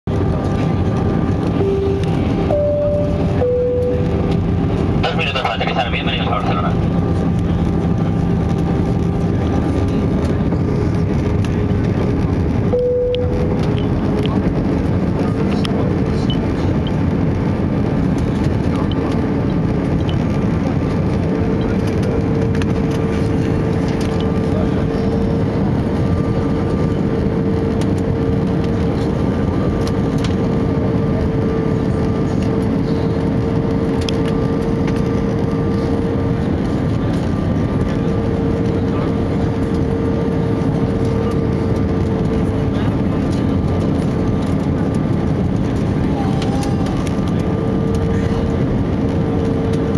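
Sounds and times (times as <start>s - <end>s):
airflow roar in airplane cabin: 0.0s - 49.9s
jet engine hum and whine: 0.1s - 49.9s.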